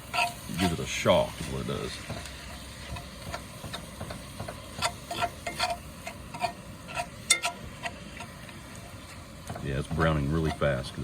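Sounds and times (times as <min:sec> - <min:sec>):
meat sizzling in a pan: 0:00.0 - 0:11.0
utensil scraping a pan: 0:00.0 - 0:11.0.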